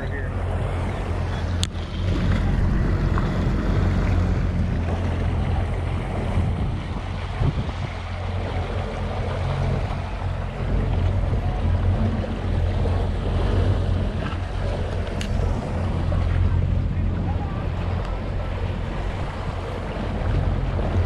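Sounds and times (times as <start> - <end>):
outboard motor humming: 0.0 - 21.0
water splashing along hull: 0.0 - 21.0
wind buffeting microphone: 0.0 - 21.0.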